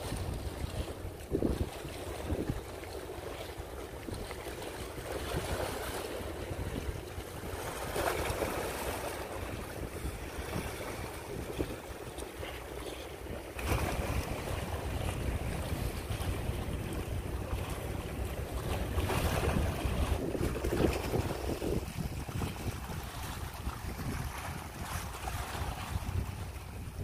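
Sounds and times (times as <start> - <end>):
waves lapping against rocks: 0.0 - 27.0
wind buffeting microphone: 0.0 - 27.0.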